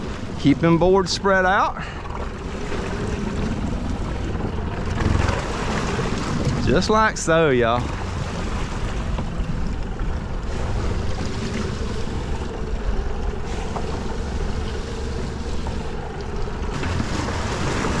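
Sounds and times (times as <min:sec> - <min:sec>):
choppy water: 0:00.0 - 0:18.0
outboard motor humming: 0:00.0 - 0:18.0.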